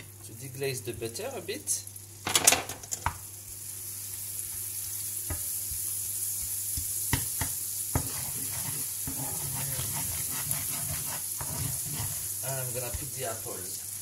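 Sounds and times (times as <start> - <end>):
butter sizzling in pan: 0.0 - 14.0.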